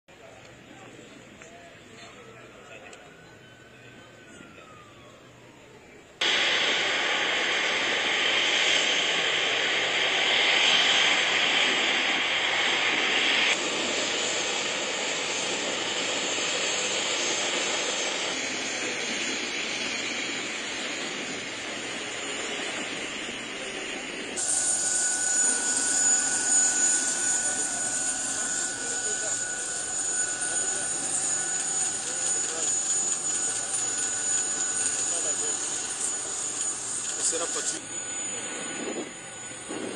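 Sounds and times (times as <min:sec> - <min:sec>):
jet engine roar: 0:00.2 - 0:39.9
high whine: 0:01.4 - 0:39.9.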